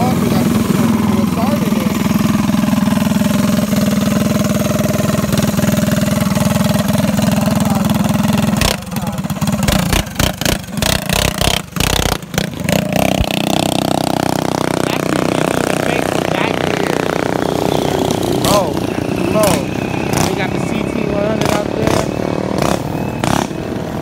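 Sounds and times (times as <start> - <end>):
minibike engine running: 0.0 - 24.0.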